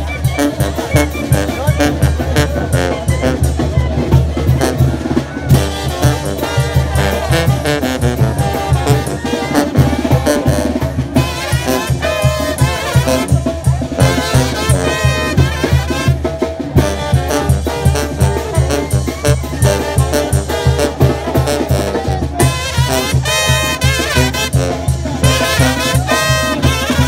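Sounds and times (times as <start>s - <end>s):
brass band playing: 0.0s - 27.0s
drum beat: 0.0s - 27.0s.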